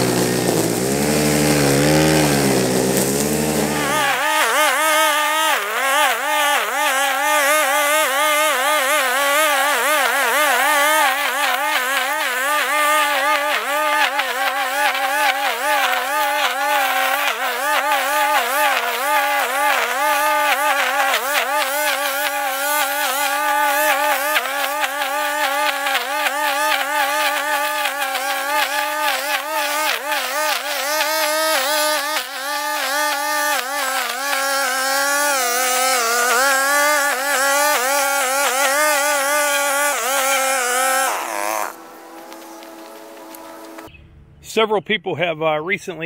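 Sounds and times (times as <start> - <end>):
string trimmer running: 0.0 - 43.9.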